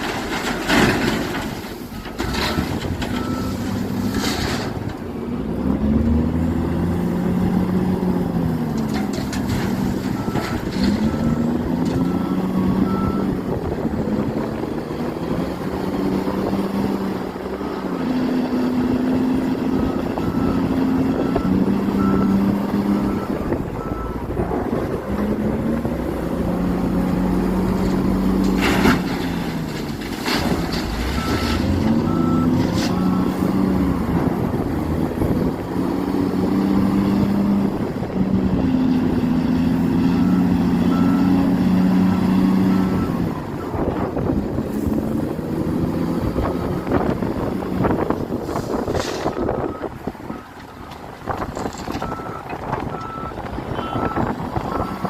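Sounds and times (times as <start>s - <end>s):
excavator diesel engines: 0.0s - 55.0s.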